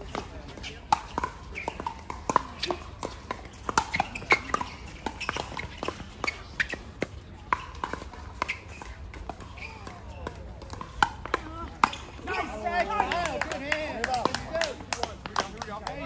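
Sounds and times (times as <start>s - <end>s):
pickleballs popping off paddles: 0.0s - 16.0s.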